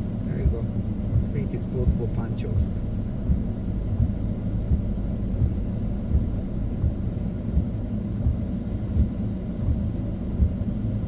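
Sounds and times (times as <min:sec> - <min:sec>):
car driving in rain rumble: 0:00.0 - 0:11.0
soft low thumps: 0:00.0 - 0:11.0.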